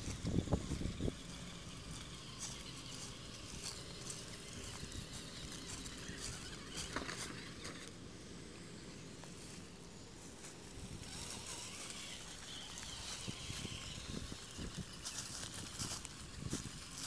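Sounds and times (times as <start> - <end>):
tyres crunching through dry leaves: 0.0 - 8.1, 8.7 - 17.0
faint motor whine: 0.0 - 17.0.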